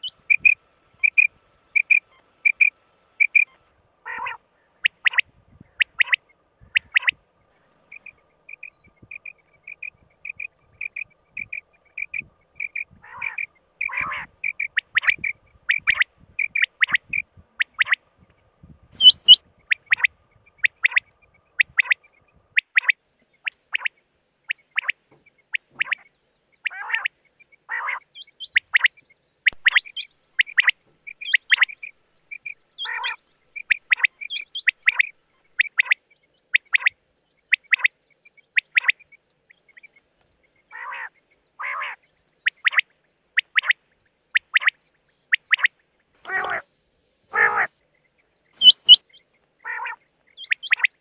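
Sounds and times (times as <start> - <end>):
quail calling: 0.0 - 7.2, 7.8 - 18.0, 19.0 - 39.1, 40.7 - 46.7, 47.3 - 47.7, 48.6 - 51.0.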